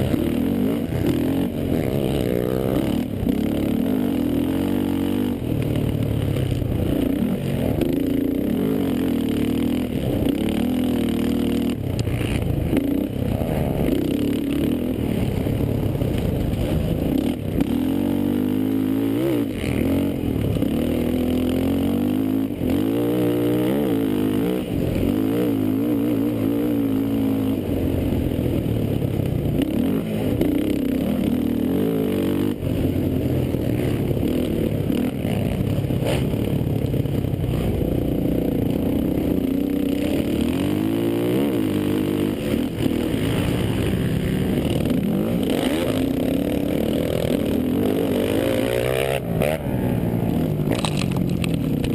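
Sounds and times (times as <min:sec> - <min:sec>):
quad engine revving: 0:00.0 - 0:28.9, 0:29.5 - 0:51.9.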